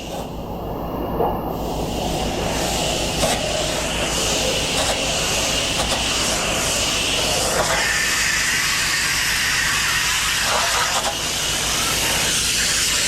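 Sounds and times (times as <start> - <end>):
high-pressure water spray hiss: 1.5 - 13.0
pressure washer engine running: 2.3 - 13.0.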